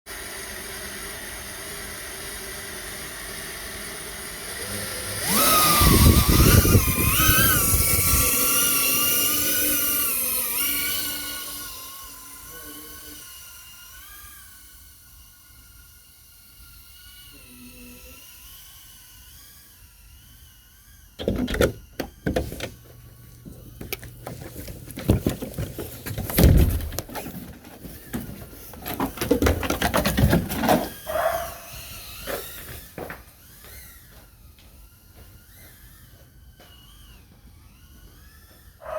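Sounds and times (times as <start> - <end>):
quadcopter motors whining: 0.1 - 38.9.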